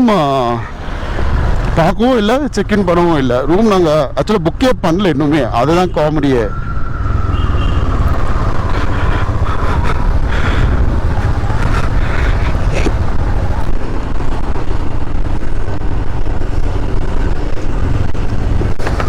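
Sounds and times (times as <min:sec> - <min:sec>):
motorcycle road and engine noise: 0:00.0 - 0:19.0
wind rumble on microphone: 0:00.7 - 0:03.6, 0:06.4 - 0:19.0.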